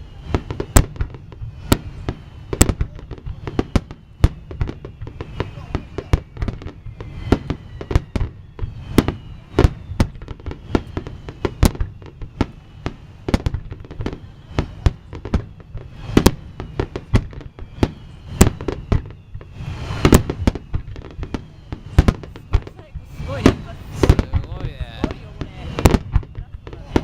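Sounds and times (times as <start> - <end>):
faint falling whistles: 0.0 - 27.0
fireworks bursting: 0.0 - 27.0.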